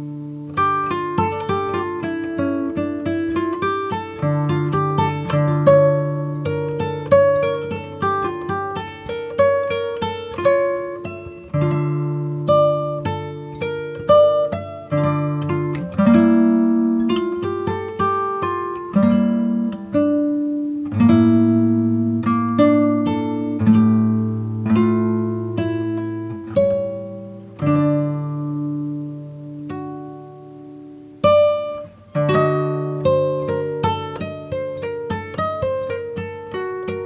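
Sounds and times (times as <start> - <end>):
acoustic guitar melody: 0.0 - 37.0.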